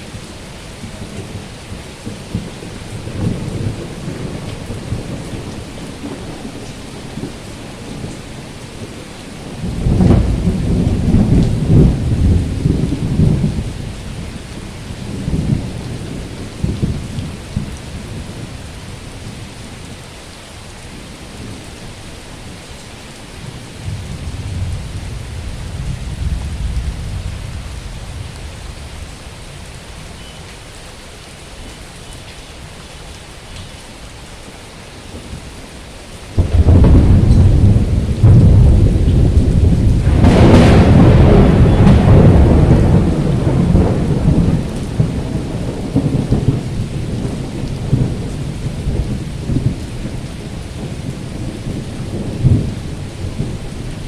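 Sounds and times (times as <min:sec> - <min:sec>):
heavy rain falling: 0:00.0 - 0:54.0
thunder rumbling: 0:01.0 - 0:19.5, 0:23.4 - 0:30.2, 0:35.1 - 0:54.0.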